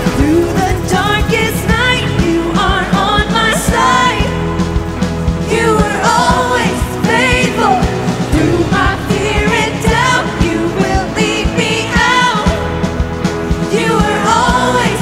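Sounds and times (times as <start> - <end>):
women singing: 0.0 - 4.7, 5.4 - 15.0
band playing worship song: 0.0 - 15.0.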